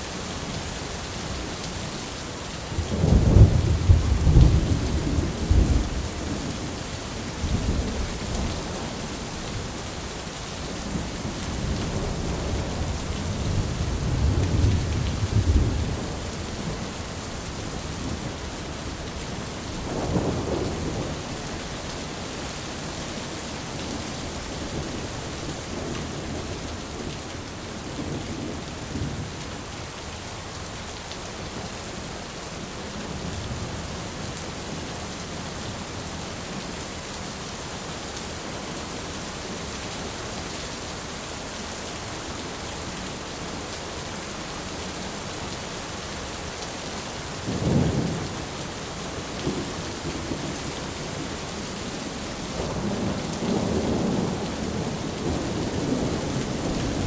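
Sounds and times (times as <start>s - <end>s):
heavy rain hissing: 0.0s - 30.8s, 38.4s - 57.0s.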